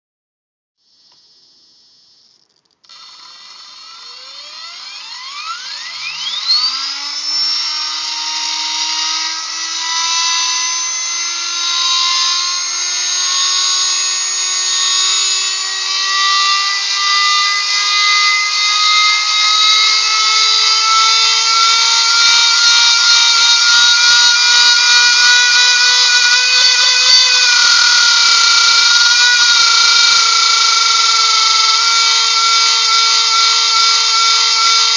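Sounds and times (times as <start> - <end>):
small motor high-pitched whine: 0.8 - 34.9.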